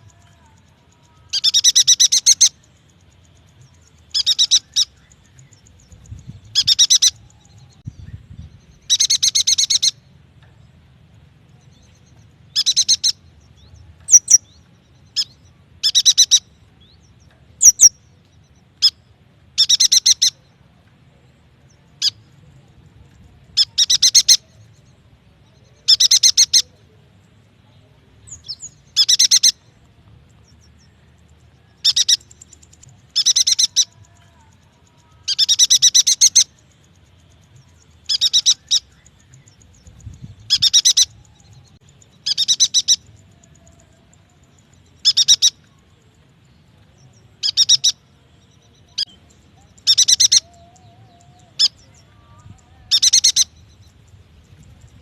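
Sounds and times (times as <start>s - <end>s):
bird chattering song: 0.0s - 10.2s, 11.6s - 20.6s, 21.6s - 55.0s.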